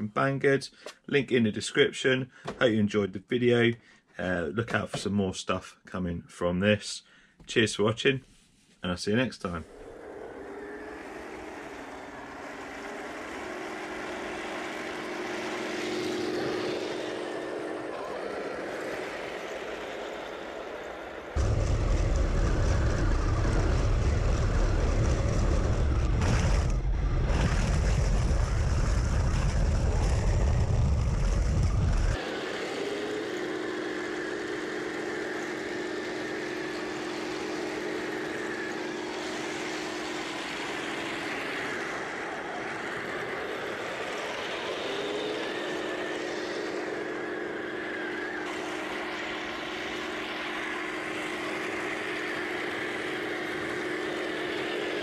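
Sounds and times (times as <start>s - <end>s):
distant toy tank hum: 9.4s - 55.0s
toy tank tracks rumbling: 9.6s - 55.0s.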